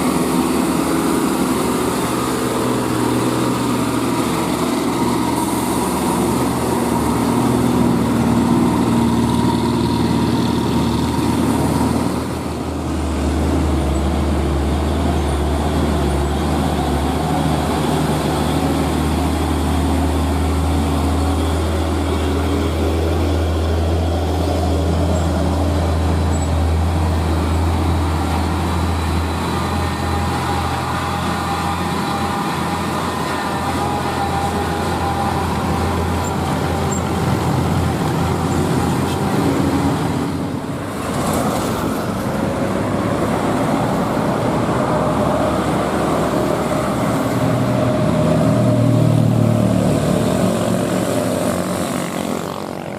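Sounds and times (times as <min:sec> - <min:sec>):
diesel truck engine climbing: 0:00.0 - 0:52.9.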